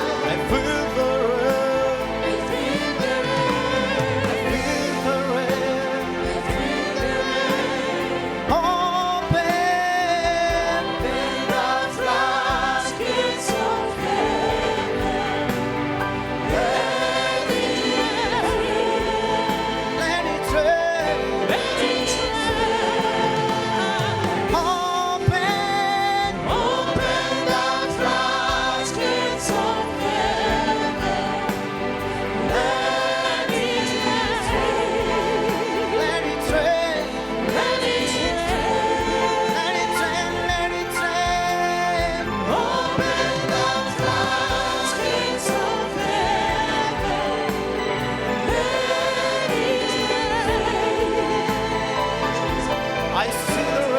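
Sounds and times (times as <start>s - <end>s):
choir singing with instruments: 0.0s - 53.9s.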